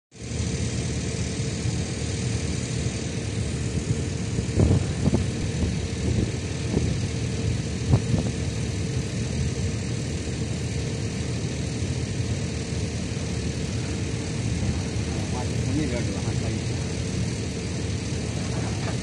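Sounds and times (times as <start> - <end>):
heavy diesel machinery droning: 0.1 - 19.0.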